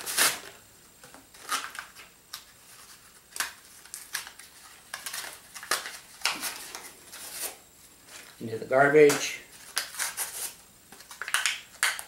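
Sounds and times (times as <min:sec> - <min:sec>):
plastic packaging crackling and snapping: 0:00.0 - 0:02.5, 0:03.2 - 0:07.5, 0:09.0 - 0:12.0.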